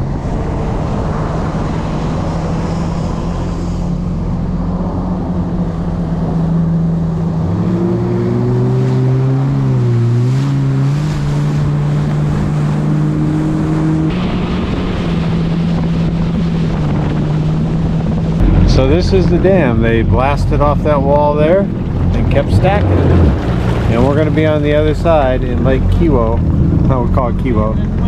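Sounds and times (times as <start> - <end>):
jet ski engines running: 0.0 - 28.0
wind on microphone: 0.0 - 28.0.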